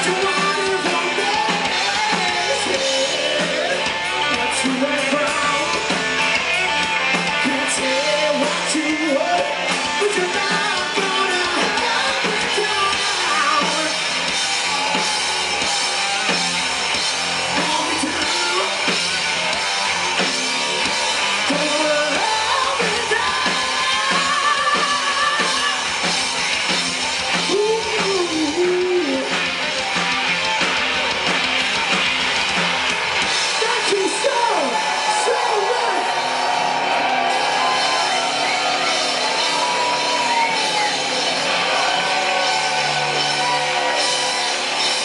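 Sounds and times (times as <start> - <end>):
drum kit: 0.0 - 45.0
electric guitars: 0.0 - 45.0.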